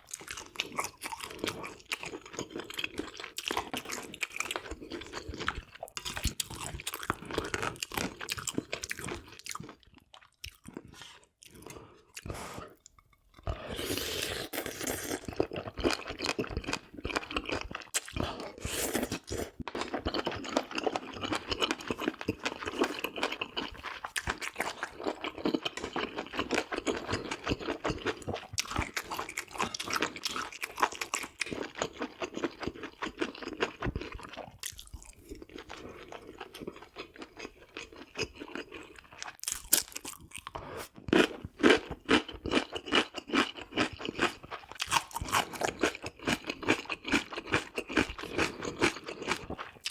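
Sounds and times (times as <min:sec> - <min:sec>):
crunchy chewing of food: 0:00.0 - 0:49.9.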